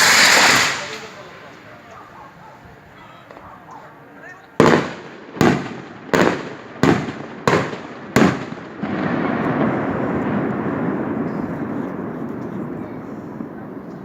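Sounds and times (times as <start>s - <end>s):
firecracker bangs: 0.0s - 1.9s, 4.6s - 14.0s.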